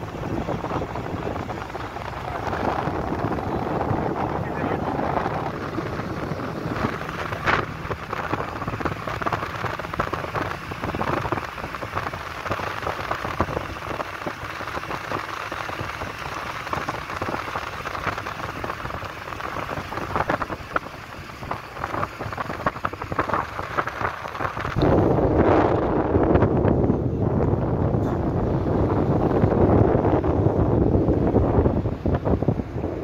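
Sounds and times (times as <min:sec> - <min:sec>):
tyre road noise inside car: 0:00.0 - 0:33.0.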